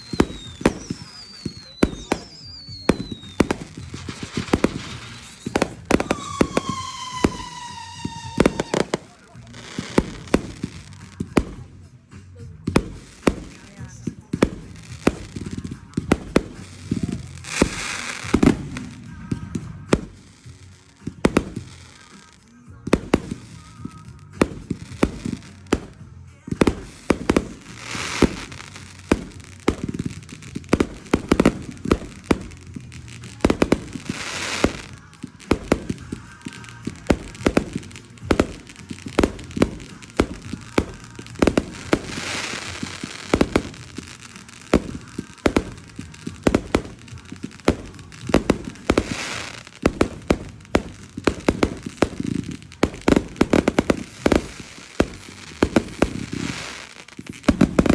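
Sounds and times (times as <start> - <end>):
fireworks cracking and banging: 0.0 - 57.9
fireworks hissing: 0.0 - 57.9.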